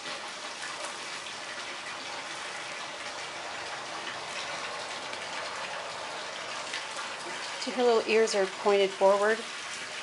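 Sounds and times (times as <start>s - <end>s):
running water splashing: 0.0s - 10.0s.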